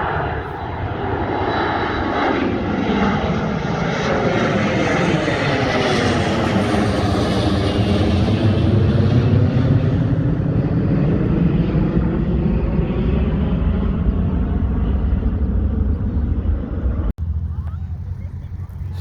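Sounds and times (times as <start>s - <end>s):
airliner engine roar: 0.0s - 19.0s.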